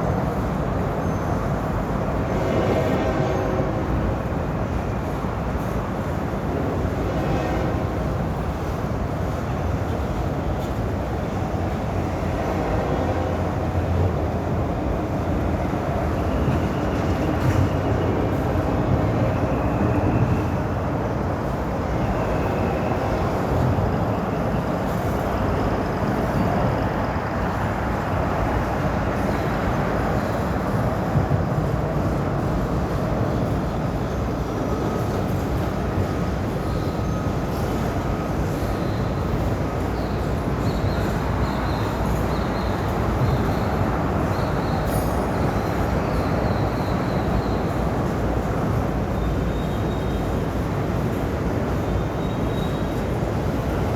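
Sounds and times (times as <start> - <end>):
train rumbling over bridge: 0.0 - 53.9.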